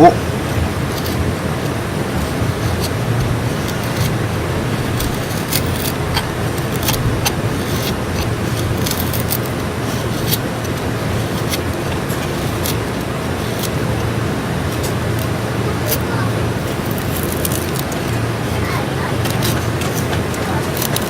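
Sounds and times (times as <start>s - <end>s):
low rumbling background: 0.0s - 21.0s
knife scraping wood: 2.3s - 21.0s.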